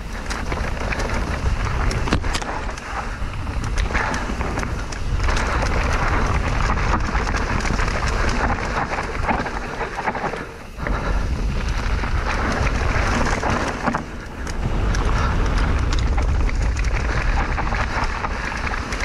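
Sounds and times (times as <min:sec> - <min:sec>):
bike tyres crackling on trail: 0:00.0 - 0:19.0
wind buffeting microphone: 0:00.0 - 0:19.0.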